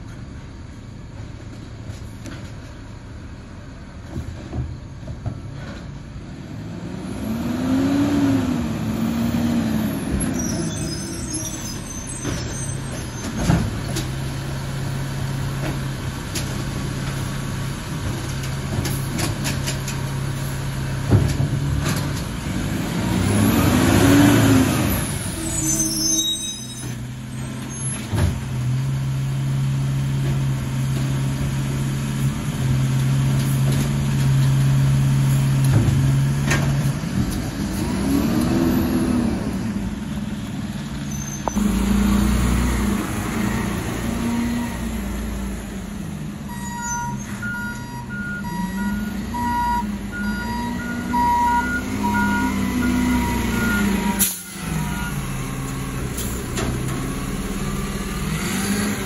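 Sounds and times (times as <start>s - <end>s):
garbage truck diesel engine: 0.0s - 59.0s.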